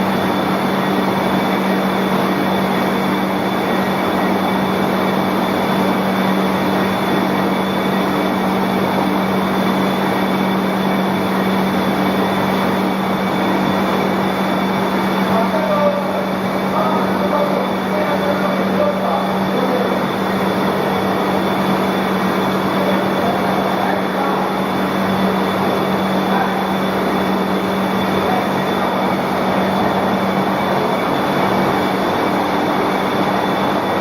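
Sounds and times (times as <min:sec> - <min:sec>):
faint steady whines: 0:00.0 - 0:34.0.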